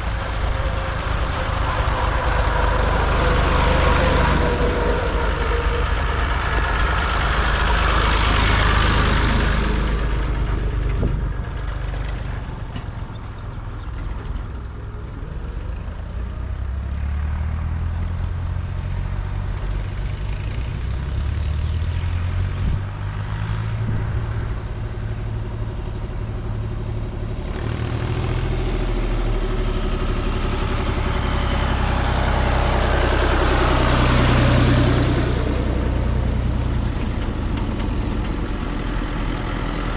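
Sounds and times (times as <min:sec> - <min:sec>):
distant engines chugging: 0:00.0 - 0:39.9
tractor engines driving past: 0:00.0 - 0:39.9.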